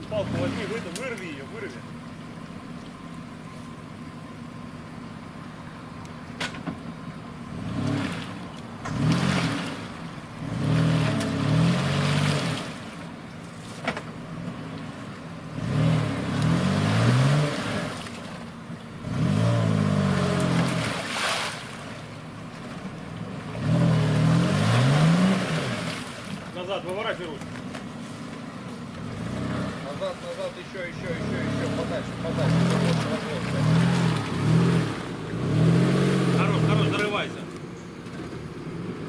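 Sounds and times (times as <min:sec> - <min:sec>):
suv engine revving: 0:00.0 - 0:39.0.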